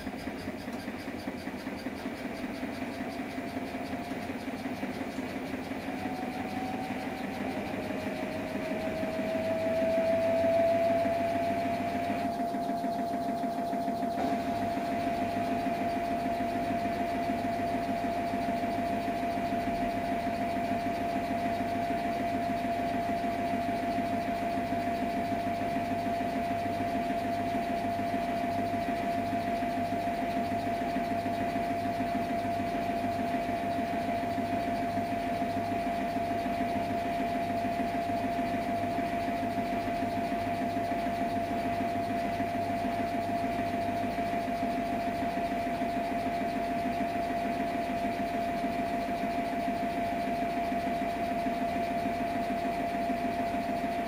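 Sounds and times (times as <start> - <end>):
washing machine motor whine: 0.0 - 54.0.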